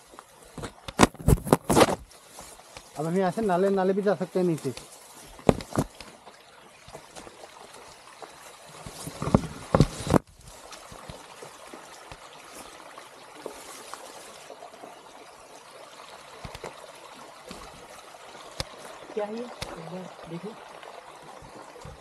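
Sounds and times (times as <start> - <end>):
small stream trickling: 0.0 - 22.0.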